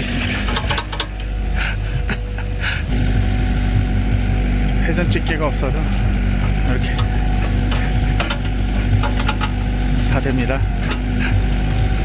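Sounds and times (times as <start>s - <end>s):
engine running low: 0.0s - 12.0s.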